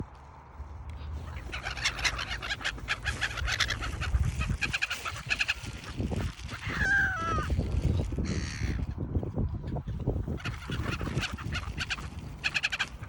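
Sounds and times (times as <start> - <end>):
birds chattering calls: 1.2 - 9.0, 9.8 - 13.0.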